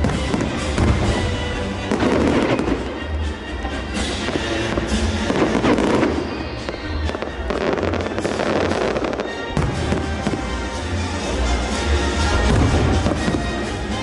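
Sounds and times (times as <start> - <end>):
fireworks bursting and crackling: 0.0 - 14.0
music playing: 0.0 - 14.0.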